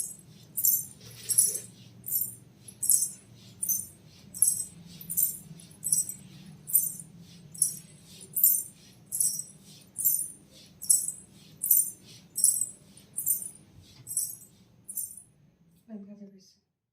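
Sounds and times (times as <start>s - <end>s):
anklet bells jingling: 0.0s - 15.3s.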